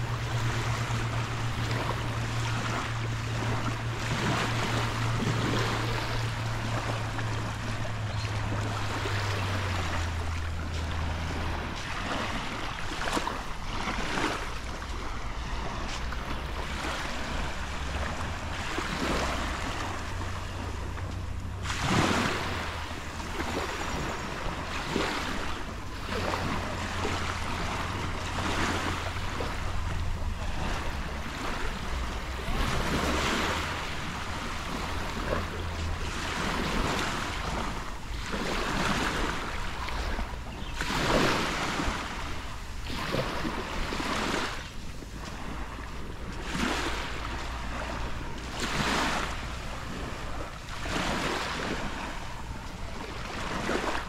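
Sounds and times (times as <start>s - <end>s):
sea waves breaking on beach: 0.0s - 54.0s
wind rumble on microphone: 0.0s - 54.0s.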